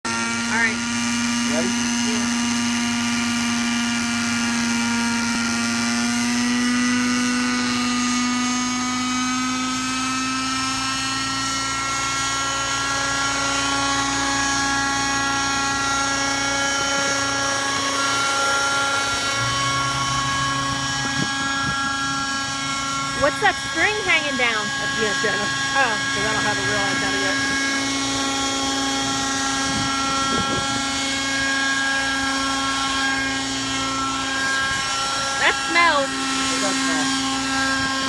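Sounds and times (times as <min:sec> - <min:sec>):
rc helicopter engine buzzing: 0:00.0 - 0:38.0.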